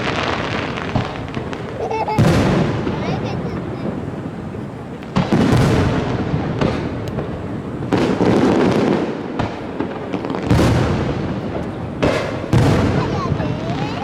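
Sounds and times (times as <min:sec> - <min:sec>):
fireworks shells bursting: 0:00.0 - 0:14.0.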